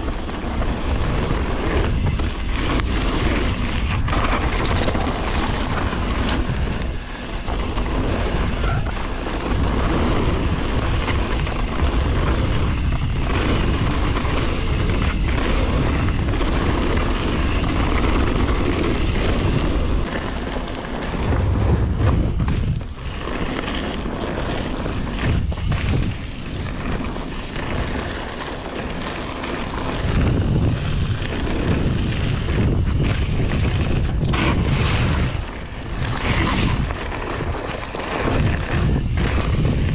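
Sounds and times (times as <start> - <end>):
wind buffeting microphone: 0.0 - 28.2, 29.6 - 39.9
bike tyres on trail: 0.0 - 39.9.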